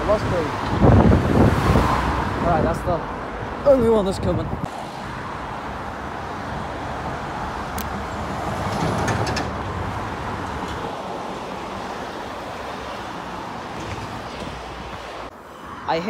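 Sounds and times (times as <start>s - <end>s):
road traffic rushing: 0.0s - 16.0s.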